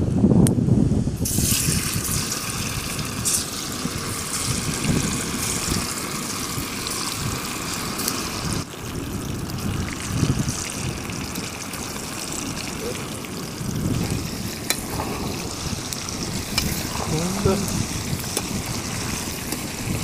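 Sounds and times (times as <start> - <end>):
fish deep-frying in oil: 1.2 - 20.0.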